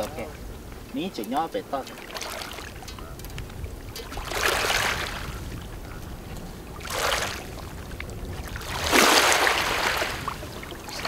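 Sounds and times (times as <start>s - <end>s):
low background rumble: 0.0s - 11.0s
waves washing onto gravel: 0.5s - 11.0s.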